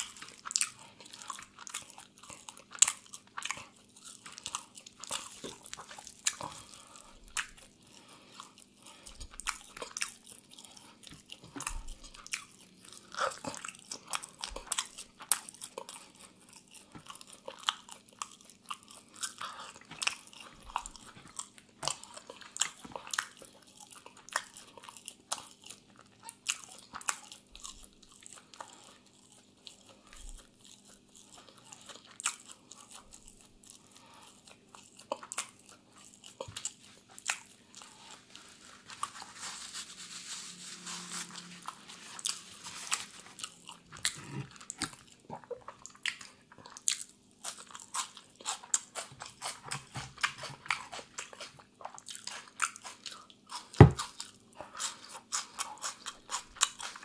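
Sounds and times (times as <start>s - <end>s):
chewing crispy chicken: 0.0s - 57.0s.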